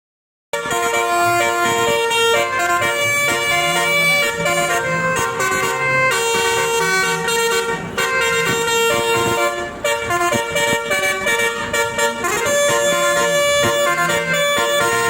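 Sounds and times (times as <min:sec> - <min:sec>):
melodic bus horn: 0:00.5 - 0:15.0.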